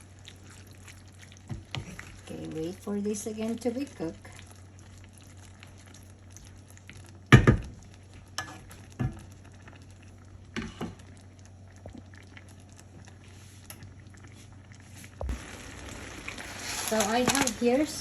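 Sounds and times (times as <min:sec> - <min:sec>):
food sizzling in a pan: 0:00.0 - 0:14.4, 0:15.2 - 0:18.0.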